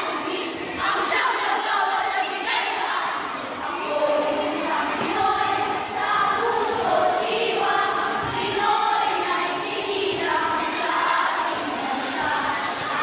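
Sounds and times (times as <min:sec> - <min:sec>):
children chanting in unison: 0:00.0 - 0:13.0.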